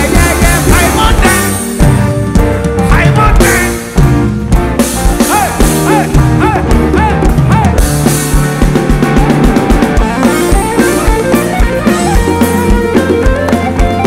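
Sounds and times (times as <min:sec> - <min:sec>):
bass guitar: 0:00.0 - 0:14.0
drum kit beat: 0:00.0 - 0:14.0
electric guitars: 0:00.0 - 0:14.0.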